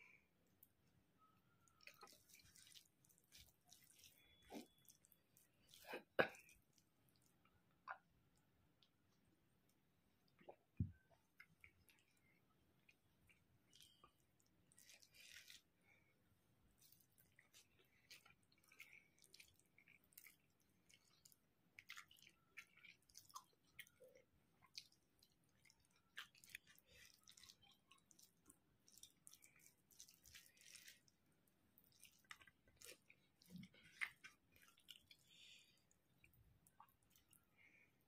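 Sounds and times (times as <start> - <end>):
fingers squishing rice: 0.2 - 38.0
wet chewing and mouth smacks: 1.6 - 15.8, 16.7 - 38.0.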